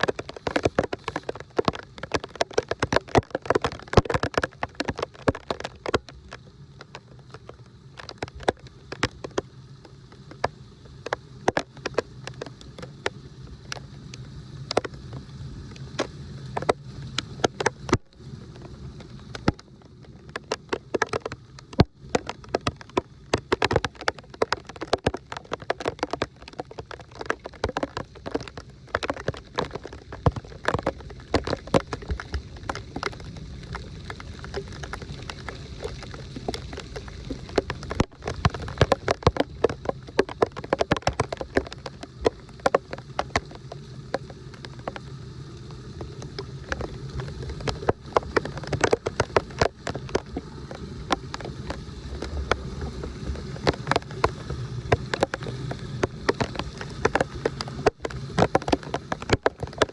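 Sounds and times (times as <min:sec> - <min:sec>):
heavy rain splashing into water: 0:00.0 - 0:59.9
moving water rumbling: 0:00.0 - 0:59.9.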